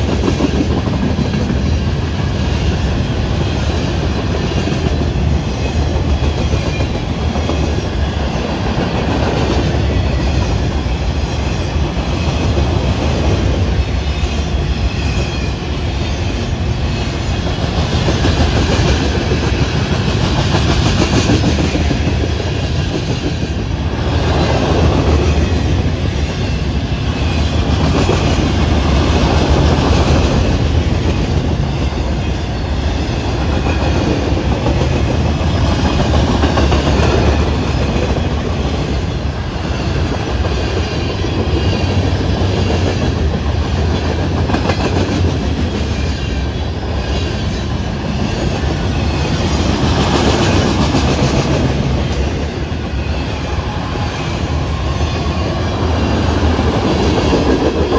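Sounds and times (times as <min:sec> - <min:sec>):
train cars rumbling past: 0:00.0 - 0:57.9.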